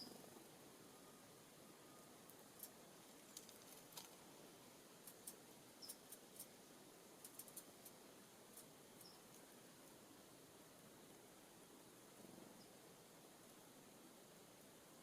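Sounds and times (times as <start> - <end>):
songbirds ticking and clicking: 0.0 - 15.0.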